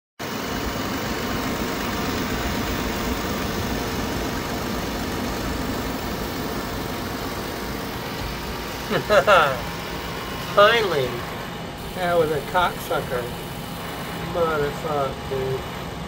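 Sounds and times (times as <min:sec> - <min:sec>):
air conditioner fan running: 0:00.2 - 0:16.0.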